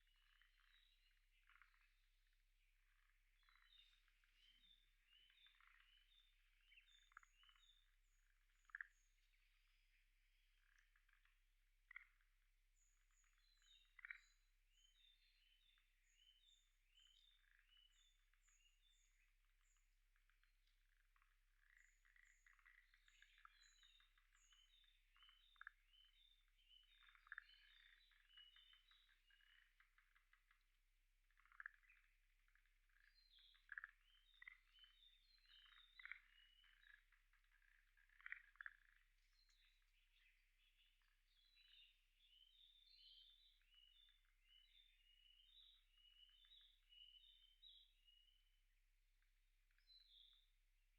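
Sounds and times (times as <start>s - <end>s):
frogs chirping: 0.0s - 2.1s, 2.9s - 9.7s, 13.1s - 19.8s, 21.6s - 30.5s, 31.3s - 47.8s.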